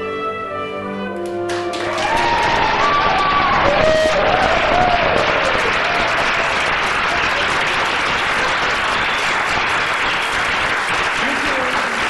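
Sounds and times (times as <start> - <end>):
crowd applauding: 1.2 - 12.0.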